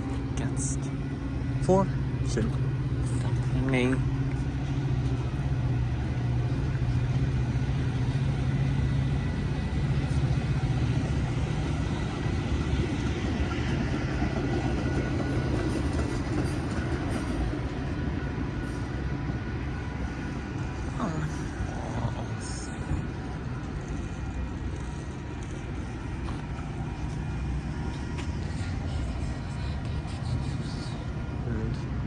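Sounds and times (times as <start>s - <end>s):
diesel engine hum: 0.0s - 32.0s
train rumble: 0.0s - 32.0s.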